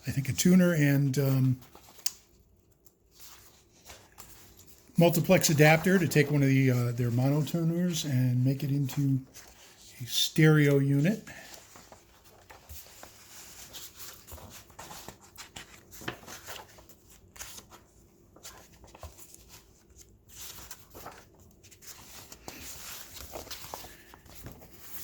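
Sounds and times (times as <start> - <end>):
paper pages rustling: 1.0 - 25.0.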